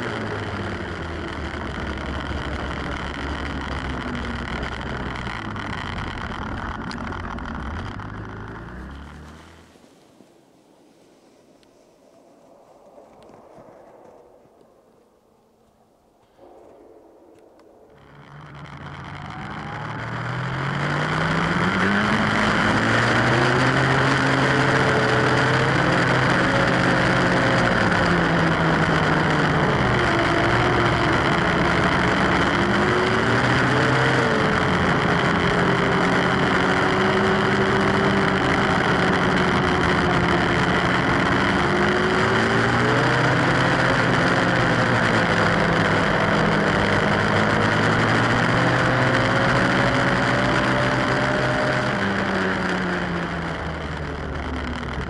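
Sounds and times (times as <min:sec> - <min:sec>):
snowmobile engine running: 0:00.0 - 0:14.2, 0:17.6 - 0:55.0.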